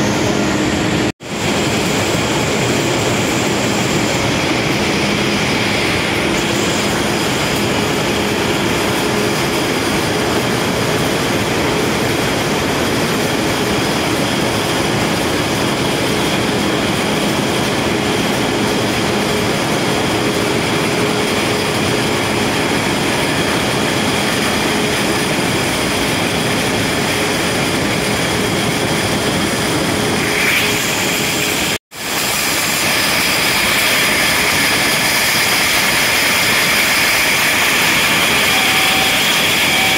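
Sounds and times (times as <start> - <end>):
production line machines running: 0.0 - 39.9.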